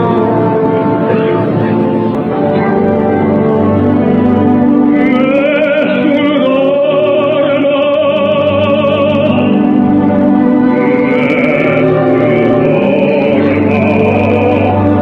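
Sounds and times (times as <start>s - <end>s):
operatic tenor singing: 0.0s - 15.0s
orchestra playing: 0.0s - 15.0s.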